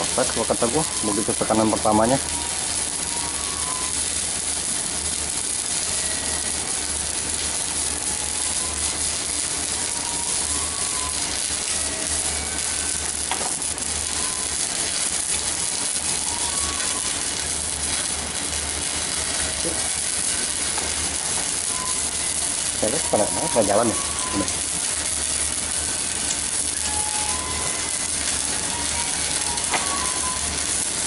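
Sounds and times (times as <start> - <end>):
welding arc crackling sizzle: 0.0 - 31.0.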